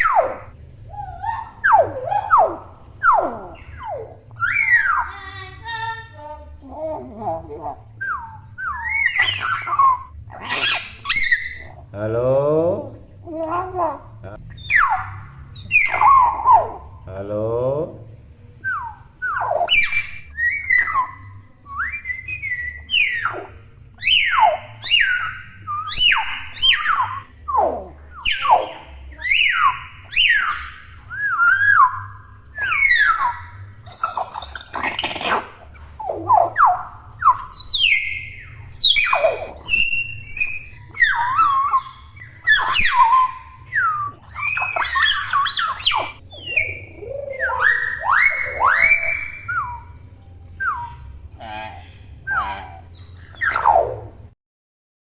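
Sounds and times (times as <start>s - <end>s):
myna whistles and chattering calls: 0.0s - 5.8s, 7.2s - 11.9s, 14.5s - 16.9s, 18.6s - 50.0s, 52.2s - 54.1s.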